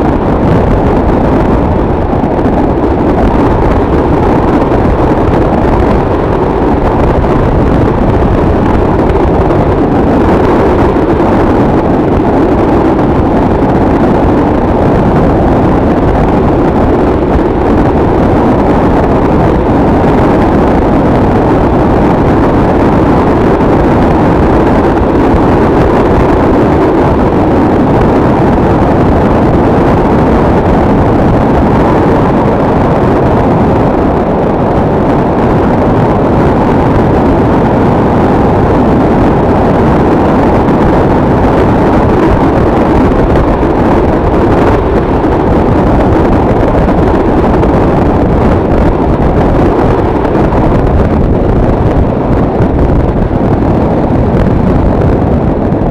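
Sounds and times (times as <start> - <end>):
motorcycle engine drone: 0.0 - 55.9
wind noise on microphone: 0.0 - 55.9.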